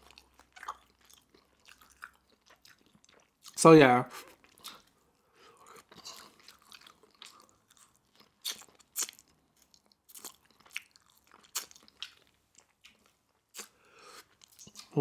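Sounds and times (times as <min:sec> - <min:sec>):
close-miked chewing: 0:00.0 - 0:15.0.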